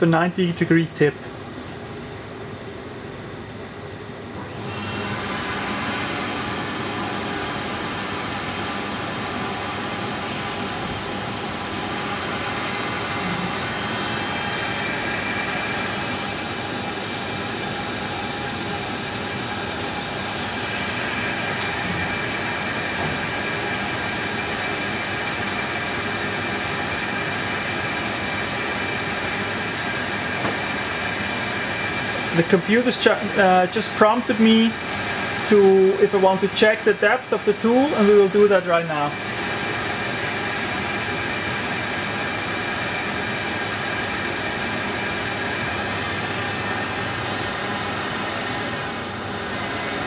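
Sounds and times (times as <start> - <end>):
milling machine whirring: 4.3 - 50.0.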